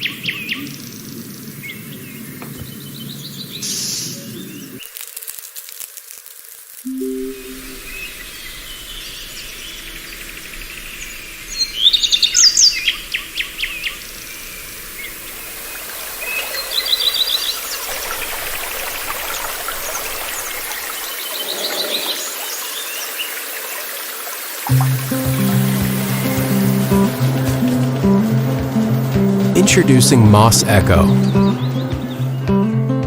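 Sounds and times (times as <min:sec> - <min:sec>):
birds chirping and trilling: 0:00.0 - 0:04.8, 0:07.6 - 0:29.5, 0:31.0 - 0:33.0
outdoor ambience hiss: 0:00.0 - 0:31.9.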